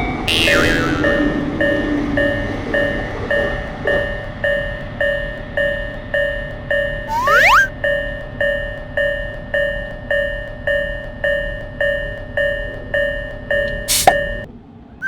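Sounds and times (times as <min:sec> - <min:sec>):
railroad crossing bell clanging: 0:00.9 - 0:07.1, 0:07.7 - 0:14.5.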